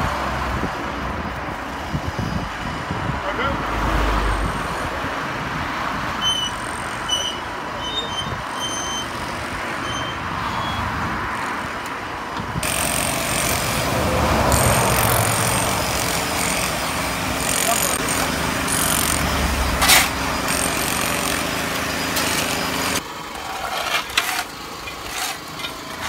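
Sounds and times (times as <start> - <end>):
motorway traffic noise: 0.0 - 26.0.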